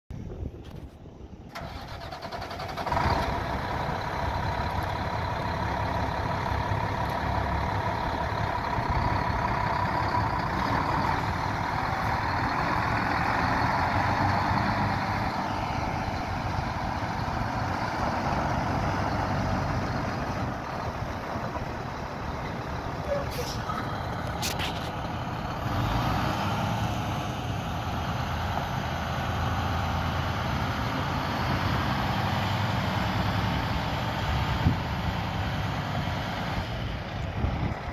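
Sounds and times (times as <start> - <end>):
engine whine: 0.1 - 37.9
diesel engine starting: 0.6 - 37.9.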